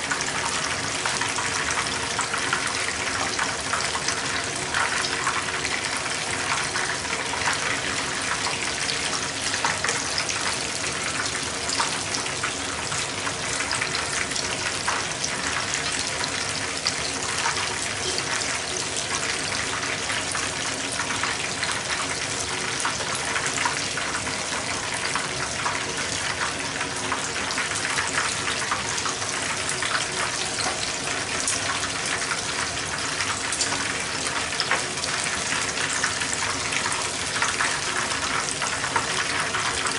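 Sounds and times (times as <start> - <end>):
oil sizzling and crackling: 0.0 - 39.9.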